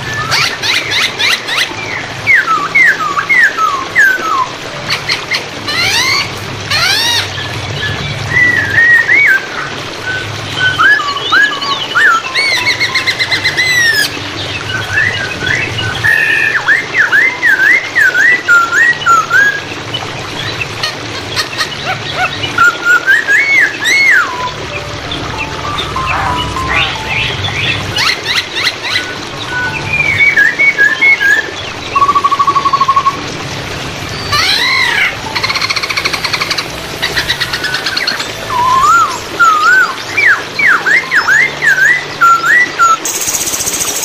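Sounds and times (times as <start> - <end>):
bird singing whistled phrases: 0.0 - 4.6, 5.8 - 19.8, 22.2 - 33.3, 34.1 - 44.0
flowing water: 0.0 - 44.0.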